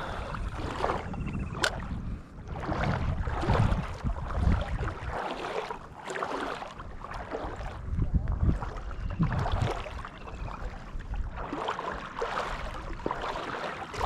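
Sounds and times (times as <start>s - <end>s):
water: 0.0s - 14.0s
wind rumbling on microphone: 0.0s - 14.0s.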